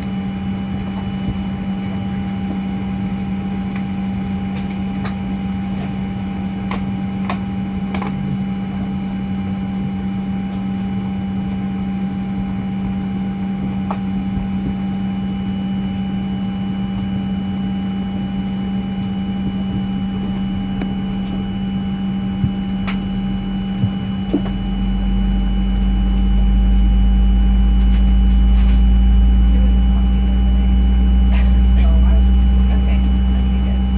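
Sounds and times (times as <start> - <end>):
airplane cabin droning hum: 0.0 - 33.9
deep low rumble: 0.0 - 33.9.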